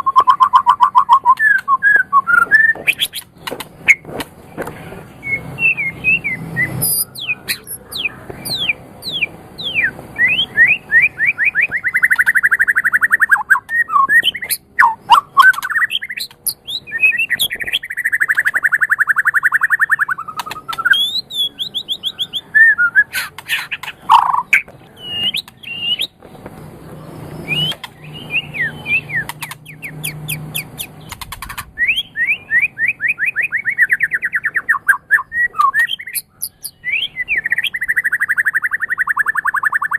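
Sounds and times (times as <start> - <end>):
songbird whistling and trilling: 0.0 - 4.0, 5.2 - 26.2, 27.1 - 39.9.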